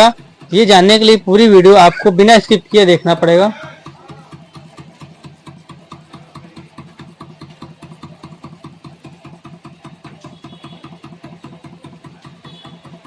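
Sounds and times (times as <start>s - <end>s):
fan knocking rapidly: 0.0s - 13.0s.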